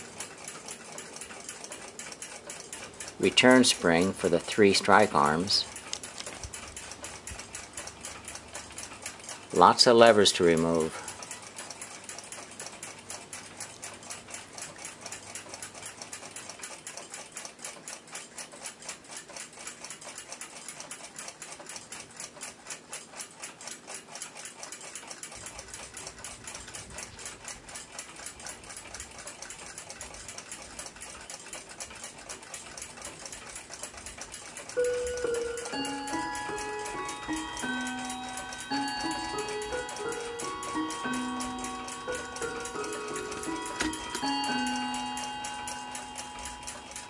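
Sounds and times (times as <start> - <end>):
mechanical clock ticking fast: 0.0 - 47.0.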